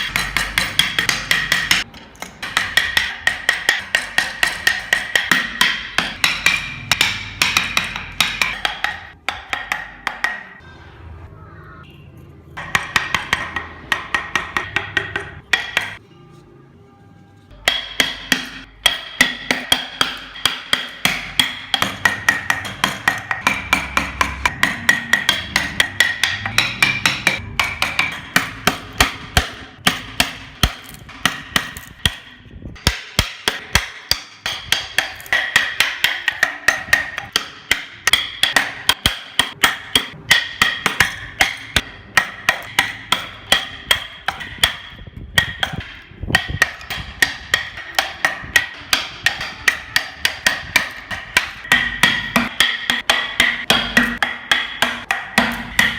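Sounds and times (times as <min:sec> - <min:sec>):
hammer striking chisel into wood: 0:00.0 - 0:10.6, 0:12.6 - 0:16.0, 0:17.6 - 0:55.9.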